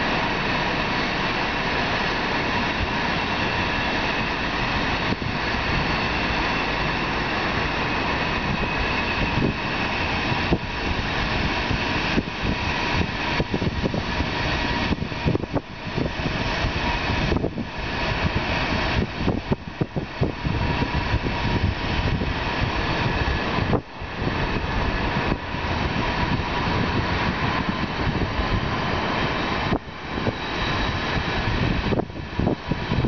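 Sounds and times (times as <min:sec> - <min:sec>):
city traffic hum: 0:00.0 - 0:33.0
wind buffeting microphone: 0:01.6 - 0:33.0.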